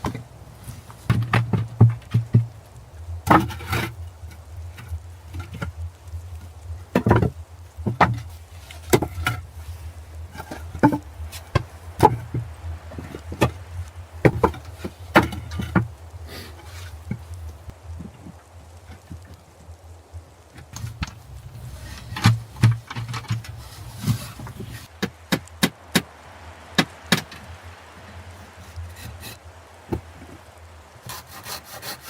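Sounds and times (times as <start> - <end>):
knocks taps and scrapes: 0.0 - 19.4, 20.6 - 26.1, 28.3 - 30.5
steady low hum: 0.0 - 31.5.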